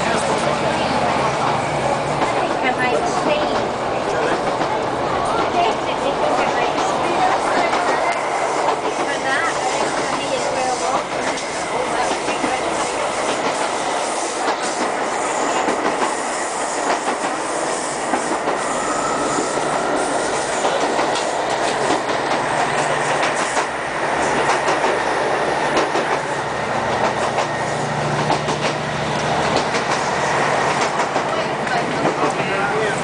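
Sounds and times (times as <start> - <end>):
train wheels on rails: 0.0 - 33.0.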